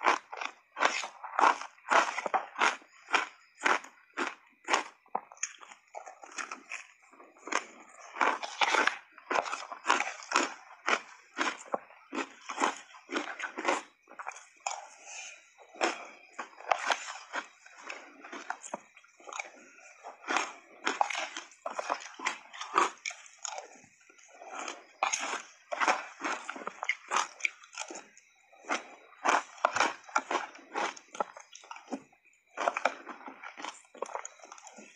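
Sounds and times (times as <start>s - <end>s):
crunching shaved ice: 0.0s - 14.8s, 15.8s - 23.6s, 24.5s - 31.8s, 32.6s - 34.9s.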